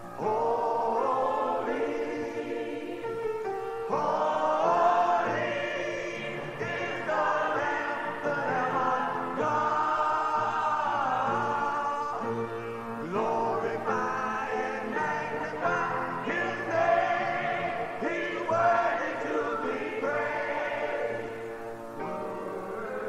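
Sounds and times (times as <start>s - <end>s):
gospel choir singing: 0.0s - 23.0s.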